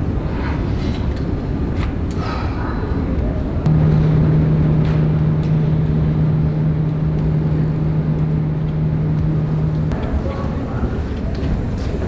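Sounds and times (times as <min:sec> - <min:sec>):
low rumbling background: 0:00.0 - 0:12.0
vending machine electrical hum: 0:00.0 - 0:12.0.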